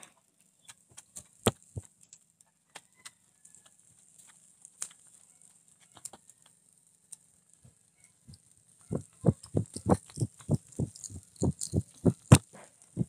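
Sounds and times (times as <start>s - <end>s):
fire popping and crackling: 0.3s - 13.0s
meat sizzling on charcoal grill: 0.8s - 13.0s.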